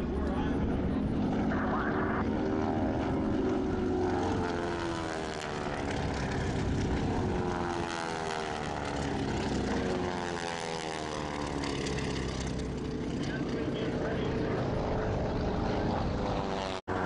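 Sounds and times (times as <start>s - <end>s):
propeller planes droning in flight: 0.0s - 17.0s.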